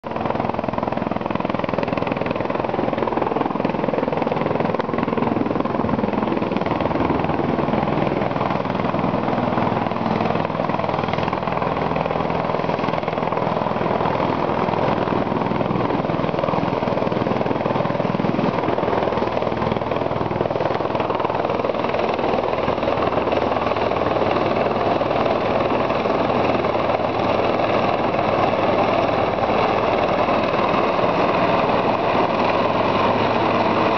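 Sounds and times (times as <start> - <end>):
helicopter engine and rotor: 0.0 - 33.9.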